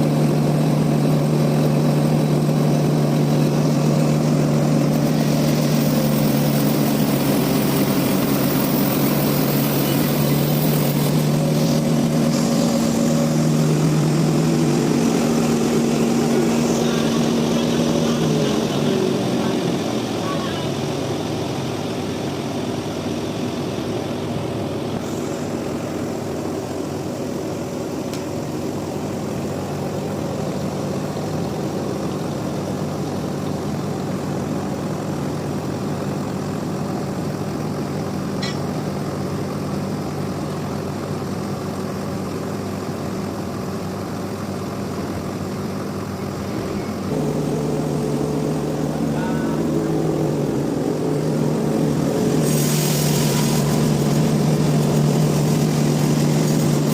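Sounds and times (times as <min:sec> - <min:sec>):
sawmill machinery droning: 0:00.0 - 0:56.9.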